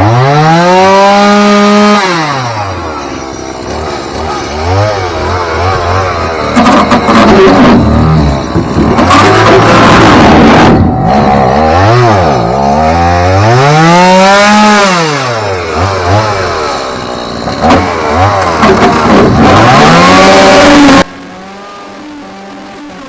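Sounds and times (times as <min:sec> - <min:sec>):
chainsaw engine revving: 0:00.0 - 0:23.0.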